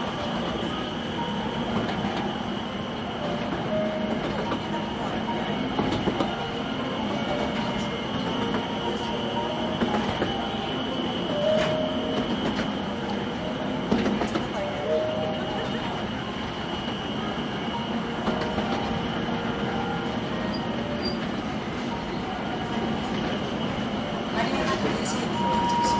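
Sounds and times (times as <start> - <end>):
train wheels on rails: 0.0 - 25.9
high wheel squeal: 0.1 - 25.9.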